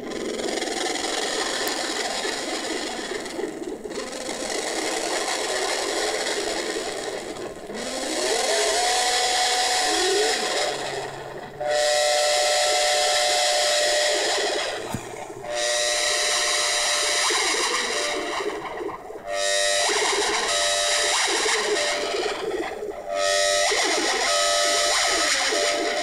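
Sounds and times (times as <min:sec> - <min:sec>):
hissing synthesizer drone: 0:00.0 - 0:26.0.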